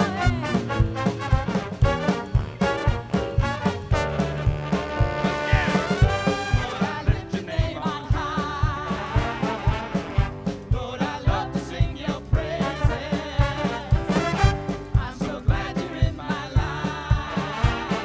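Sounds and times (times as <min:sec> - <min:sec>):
big band swing music: 0:00.0 - 0:18.0
people singing: 0:00.0 - 0:18.0.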